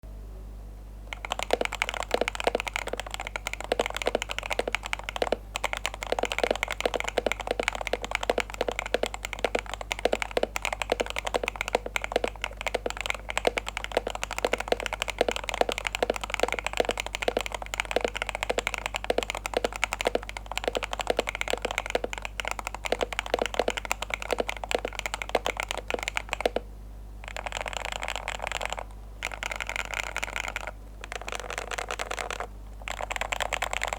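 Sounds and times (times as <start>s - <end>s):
fast keyboard typing: 1.1s - 33.9s.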